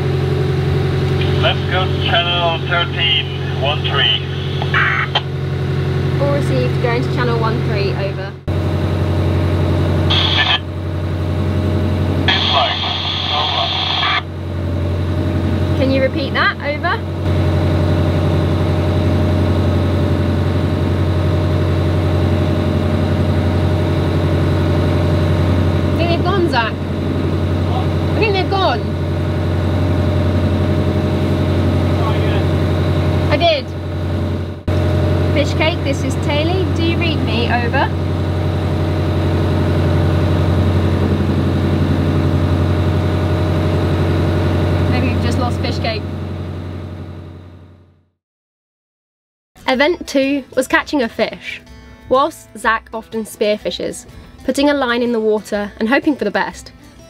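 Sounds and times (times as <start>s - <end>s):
boat engine droning: 0.0s - 48.0s, 49.6s - 57.0s.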